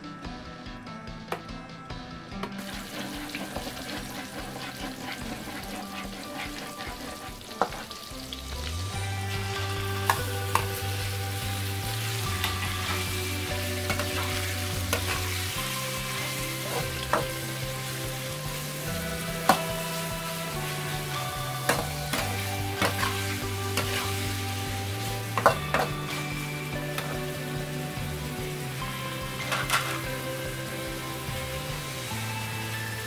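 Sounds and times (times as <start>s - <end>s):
meat sizzling in a wok: 2.6s - 33.0s.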